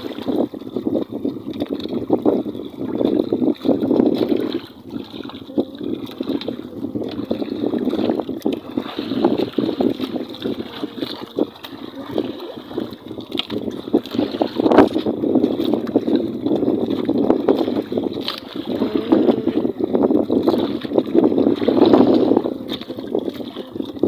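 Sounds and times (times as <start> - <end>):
water lapping against boat: 0.0 - 24.0.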